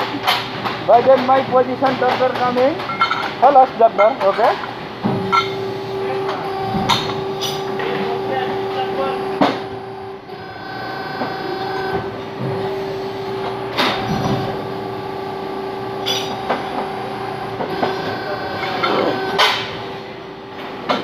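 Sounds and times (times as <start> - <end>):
workshop machinery humming: 0.0 - 21.0.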